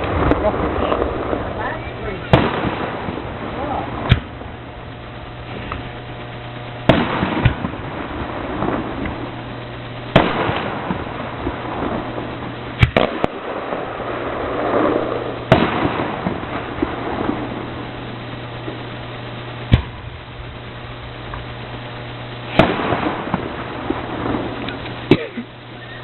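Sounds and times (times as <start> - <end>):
firework shells bursting: 0.0 - 26.0
fireworks crackle and rumble: 0.0 - 26.0.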